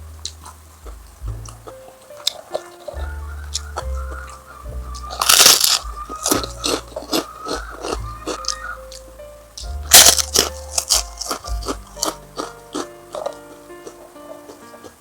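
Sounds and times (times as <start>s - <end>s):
background music: 0.0s - 15.0s
crunching raw vegetables: 0.0s - 15.0s.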